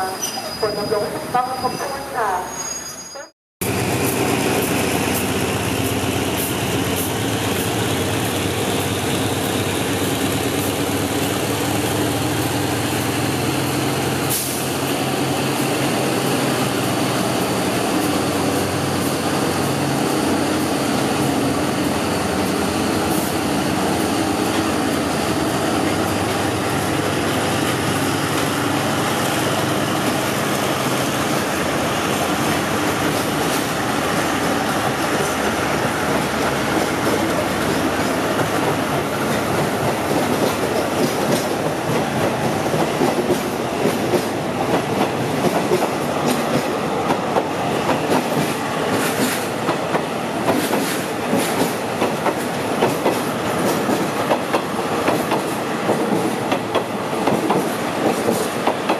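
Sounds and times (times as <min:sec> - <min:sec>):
diesel locomotive engine: 0:00.0 - 0:58.9
train coaches rolling past: 0:00.0 - 0:58.9.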